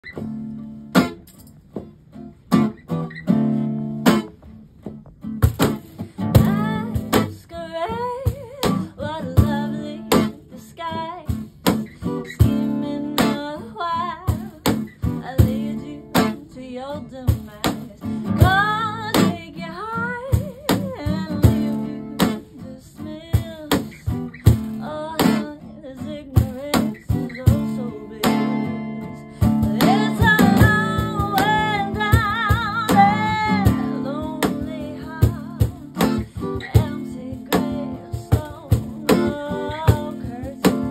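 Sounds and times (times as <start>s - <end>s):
acoustic guitar strumming: 0.0s - 40.9s
cajon beat: 0.0s - 40.9s
woman singing with vibrato: 6.3s - 40.9s.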